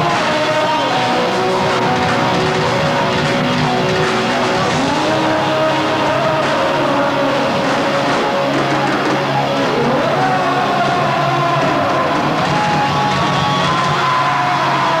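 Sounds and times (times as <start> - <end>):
distorted electric guitar bending notes: 0.0 - 15.0
heavy metal band playing live: 0.0 - 15.0.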